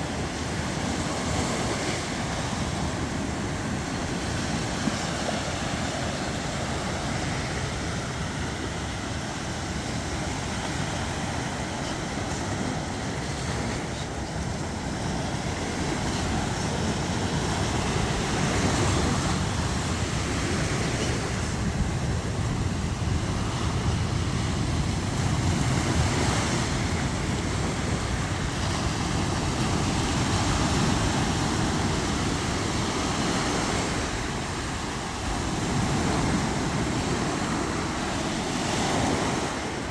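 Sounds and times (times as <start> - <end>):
surf: 0.0 - 39.9
wind: 0.0 - 39.9.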